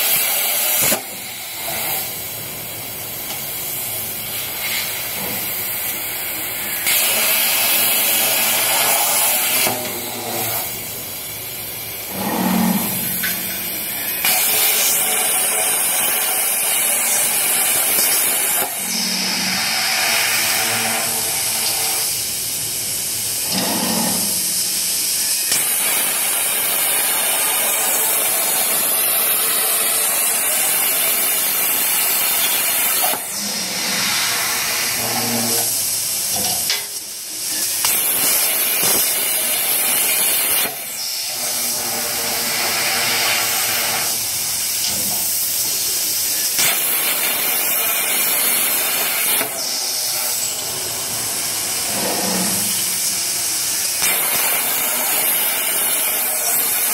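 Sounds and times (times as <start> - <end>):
plasma torch hissing: 0.0 - 56.9.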